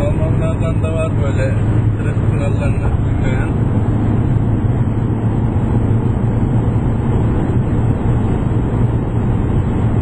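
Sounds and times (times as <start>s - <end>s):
car cabin road drone: 0.0s - 10.0s.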